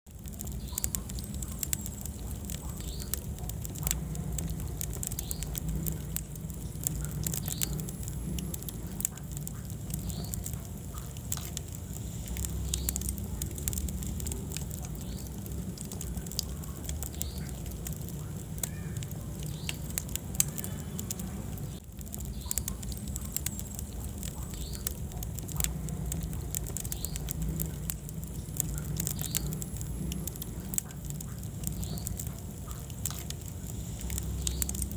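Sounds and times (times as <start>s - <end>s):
fire crackling and popping: 0.0s - 34.9s
low rumble of flame: 0.0s - 34.9s.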